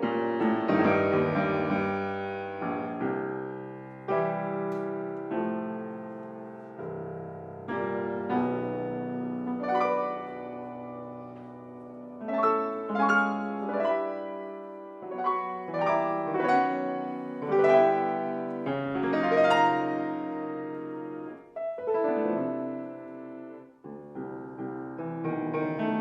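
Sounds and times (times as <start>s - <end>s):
solo piano piece: 0.0s - 26.0s.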